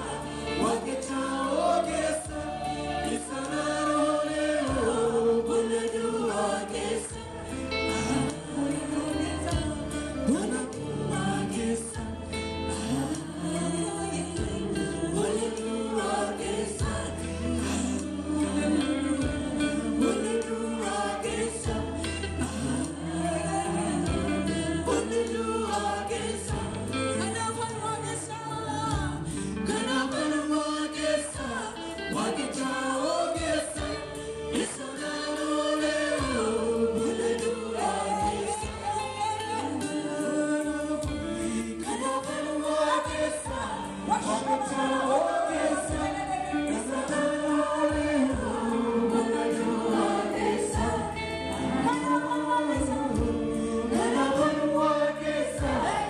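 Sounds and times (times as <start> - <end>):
amplified accompaniment with bass: 0.0 - 56.0
group singing gospel song: 0.0 - 56.0.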